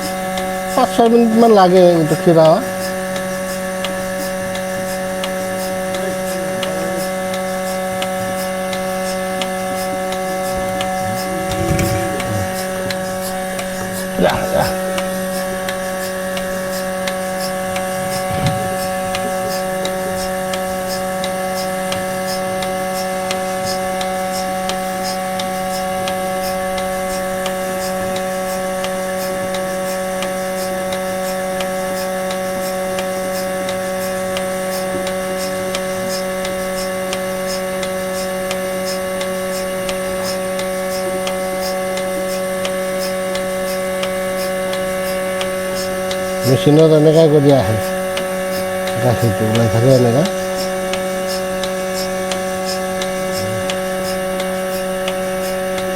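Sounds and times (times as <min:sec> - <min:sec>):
milking machine motor hum: 0:00.0 - 0:55.9.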